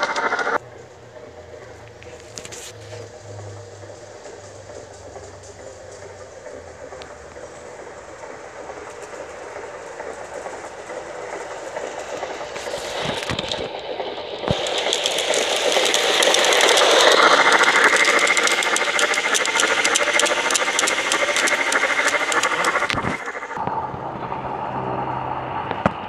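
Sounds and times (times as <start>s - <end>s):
steady hiss: 0.0s - 23.6s
wheels clicking over rail joints: 0.0s - 24.3s
model train running: 0.0s - 25.0s.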